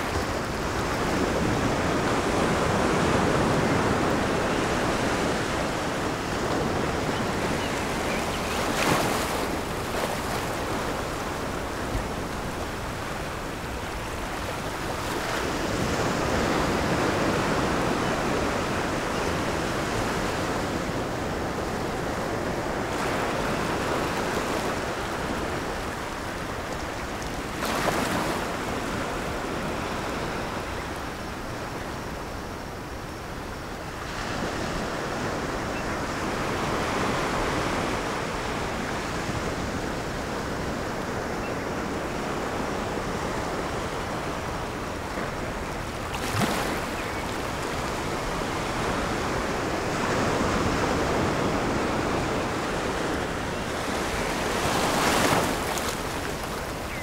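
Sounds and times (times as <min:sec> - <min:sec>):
ocean waves breaking: 0:00.0 - 0:31.4, 0:34.0 - 0:57.0.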